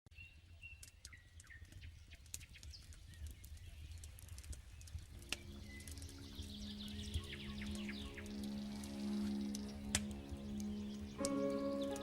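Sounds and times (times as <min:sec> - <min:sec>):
faint bird chirps: 0:00.1 - 0:12.0
campfire crackling and popping: 0:00.6 - 0:12.0.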